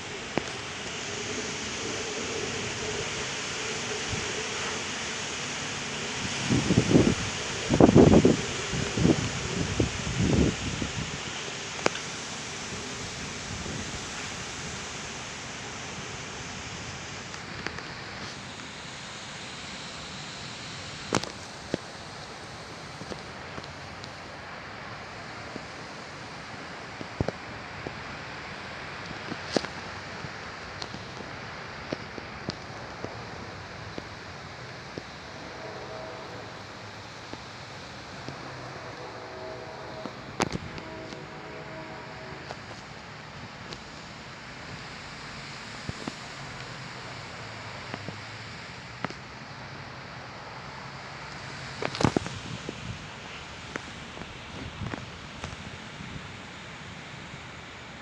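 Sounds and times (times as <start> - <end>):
heavy wind blowing: 0.0 - 18.8, 19.8 - 58.0.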